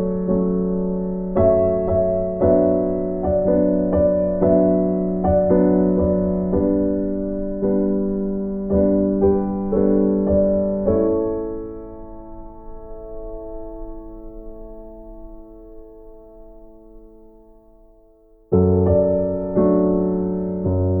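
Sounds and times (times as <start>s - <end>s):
soft piano melody: 0.0s - 21.0s.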